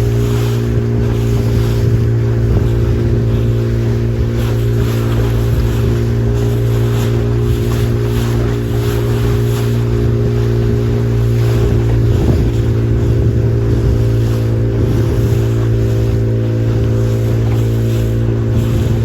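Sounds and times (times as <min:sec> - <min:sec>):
motorboat engine running: 0:00.0 - 0:19.0
water rushing: 0:00.0 - 0:19.0
wind noise: 0:00.0 - 0:19.0.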